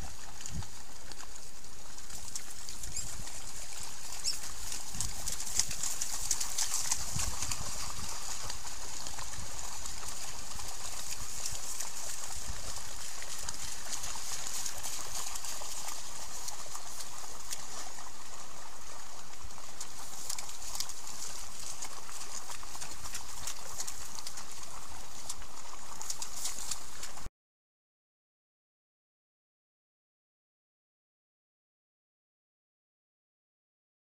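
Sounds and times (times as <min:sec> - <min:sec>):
feet splashing through water: 0:00.0 - 0:27.3.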